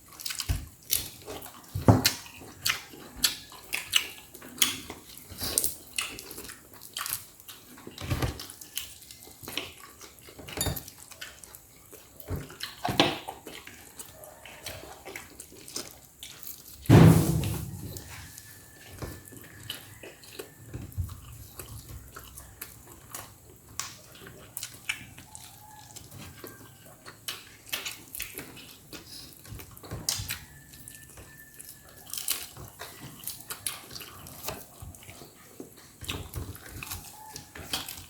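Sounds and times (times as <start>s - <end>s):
person chewing and smacking: 0.0s - 16.9s, 18.2s - 38.0s.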